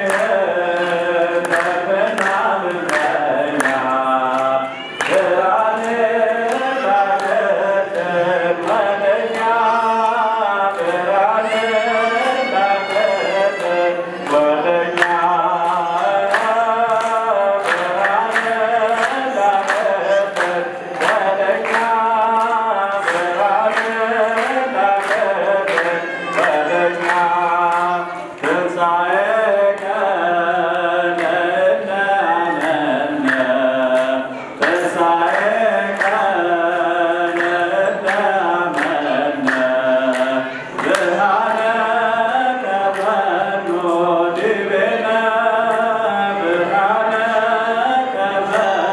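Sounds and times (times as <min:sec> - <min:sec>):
voices singing chant-like hymn: 0:00.0 - 0:48.9.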